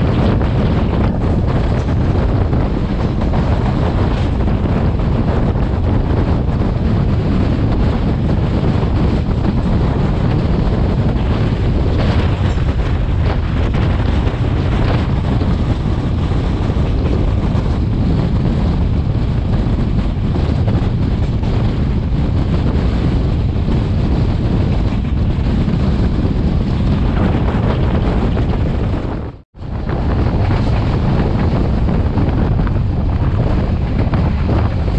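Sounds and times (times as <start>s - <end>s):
train running on track: 0.0s - 34.9s
wind buffeting microphone: 0.0s - 34.9s.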